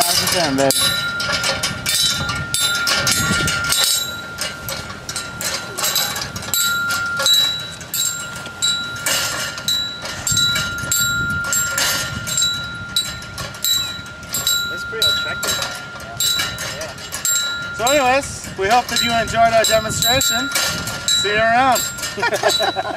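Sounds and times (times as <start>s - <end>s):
metal pipe bell ringing: 0.0s - 22.9s.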